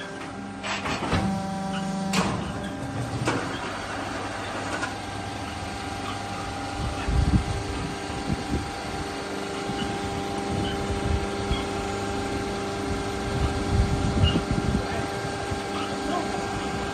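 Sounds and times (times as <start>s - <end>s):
machine motor hum: 0.0s - 16.9s.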